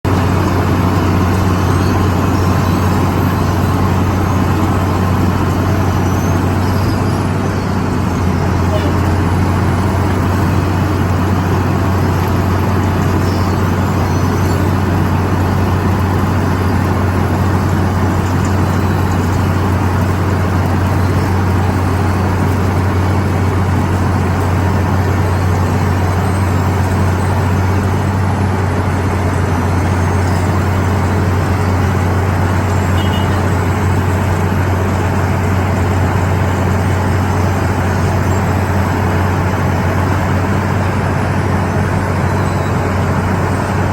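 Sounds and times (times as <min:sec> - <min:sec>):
milling machinery running: 0:00.0 - 0:43.9.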